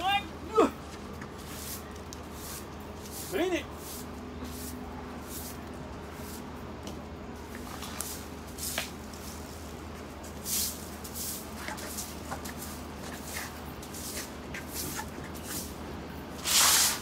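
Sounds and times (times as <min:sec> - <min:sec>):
broom sweeping concrete: 0:00.9 - 0:06.6, 0:07.4 - 0:17.0.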